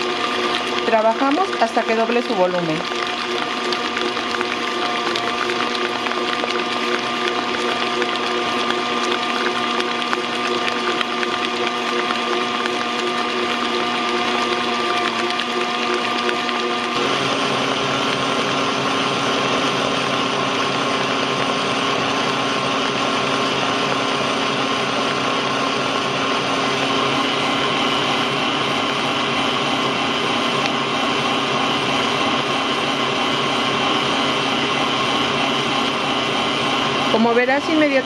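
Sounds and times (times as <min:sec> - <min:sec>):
stand mixer motor whine: 0:00.0 - 0:38.0.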